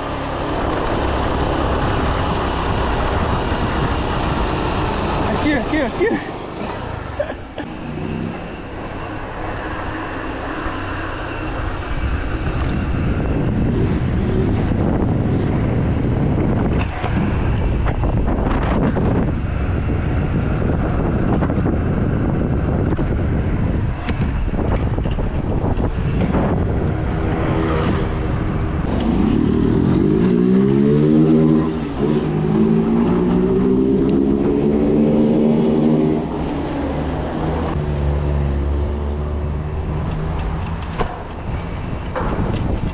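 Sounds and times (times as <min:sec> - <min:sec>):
motorcycle engine revving: 0:00.0 - 0:41.3
wind and road noise: 0:00.0 - 0:42.9.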